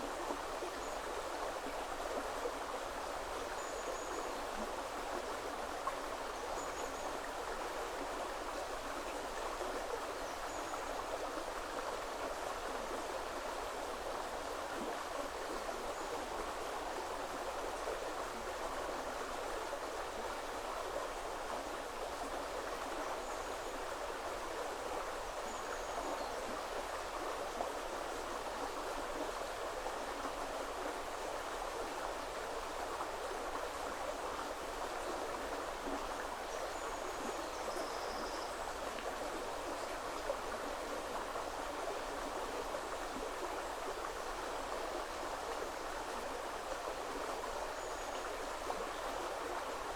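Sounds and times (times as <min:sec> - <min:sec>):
river flowing: 0:00.0 - 0:49.9.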